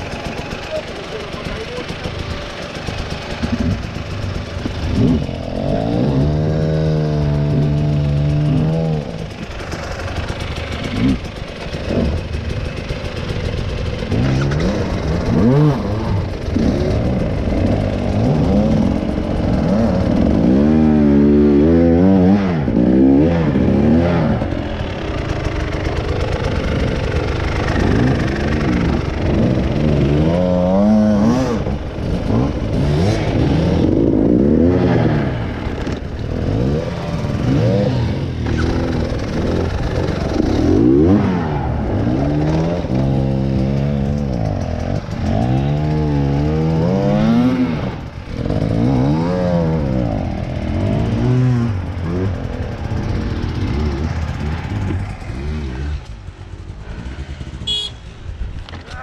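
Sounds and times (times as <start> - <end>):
clatter: 0.0 - 57.5
motorcycle engine revving: 0.0 - 59.0.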